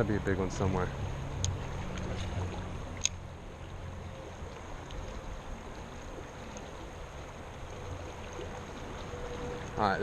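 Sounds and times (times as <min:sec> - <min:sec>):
fast-flowing river water: 0:00.0 - 0:10.0.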